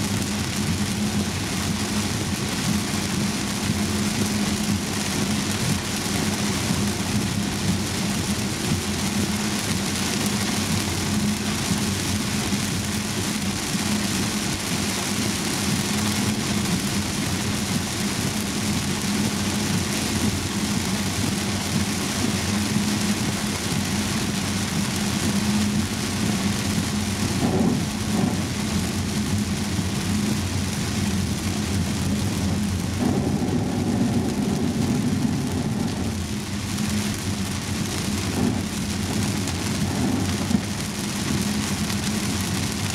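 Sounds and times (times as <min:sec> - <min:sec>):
car engine drone: 0:00.0 - 0:42.9
heavy rain on car roof: 0:00.0 - 0:42.9
tyres hissing on wet road: 0:00.0 - 0:42.9.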